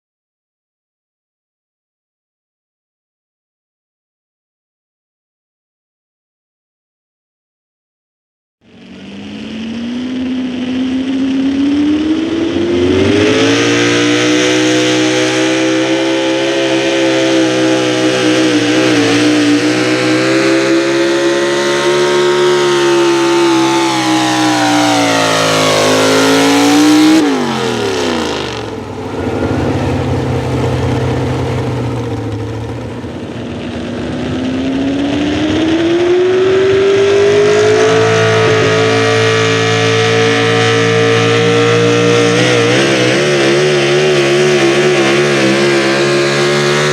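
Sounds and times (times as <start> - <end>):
truck engine at full throttle: 8.6 - 46.9.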